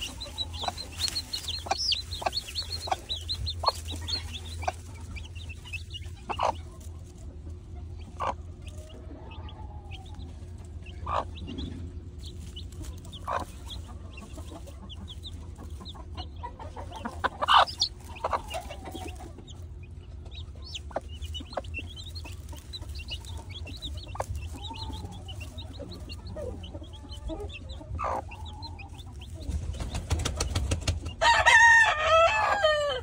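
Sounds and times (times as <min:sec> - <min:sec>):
steady low hum: 0:00.0 - 0:31.2
chicks cheeping: 0:00.0 - 0:33.0
hen clucking: 0:00.0 - 0:33.0.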